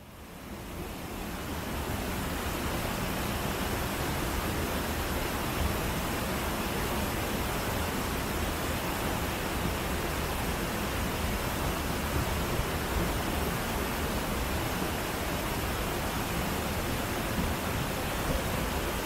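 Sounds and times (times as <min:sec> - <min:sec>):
waterfall rushing: 0:01.2 - 0:19.0.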